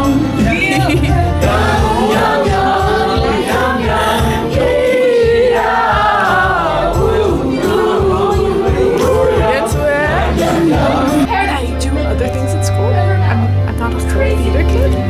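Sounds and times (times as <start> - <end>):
instrumental accompaniment: 0.0 - 15.0
voices singing together: 0.0 - 15.0.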